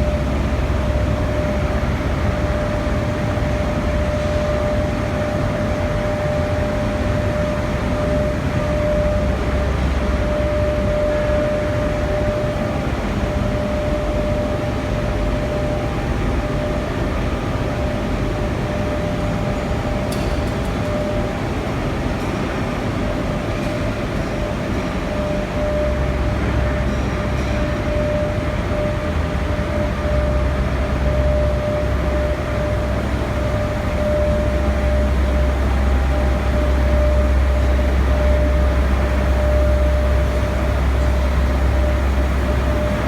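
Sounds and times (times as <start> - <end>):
industrial machinery drone: 0.0 - 43.0.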